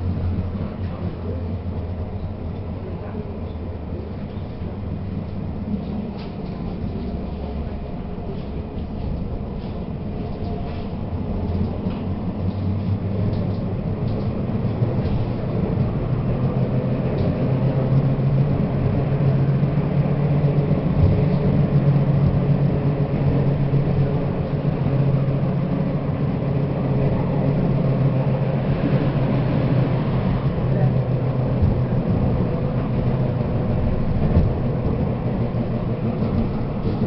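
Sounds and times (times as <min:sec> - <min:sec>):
tram running on track: 0:00.0 - 0:37.0.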